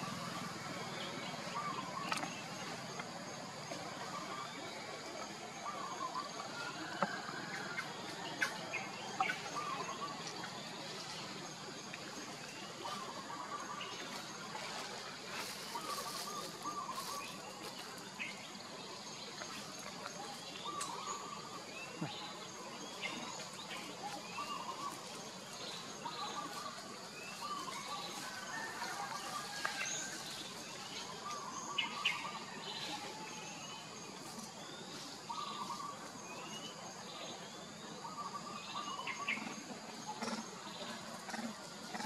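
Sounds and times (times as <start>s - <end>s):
birds warbling and chirping: 0.0s - 42.0s
high insect hum: 0.0s - 42.0s.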